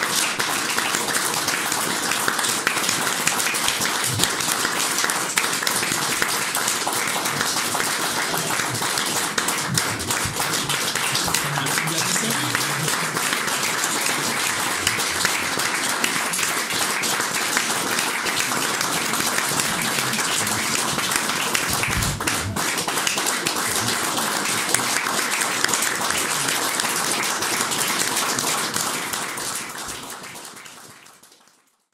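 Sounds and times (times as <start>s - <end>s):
audience applauding: 0.0s - 31.9s.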